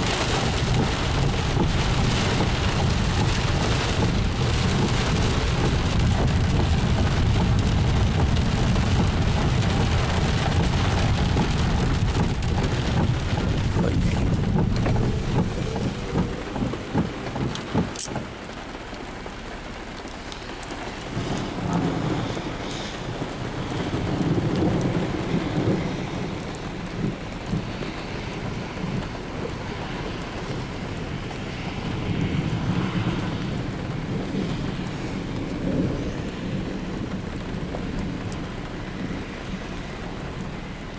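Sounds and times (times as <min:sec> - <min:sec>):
low thunder rumbles: 0:00.0 - 0:17.9, 0:20.5 - 0:40.9
heavy rain on car roof: 0:00.0 - 0:40.9.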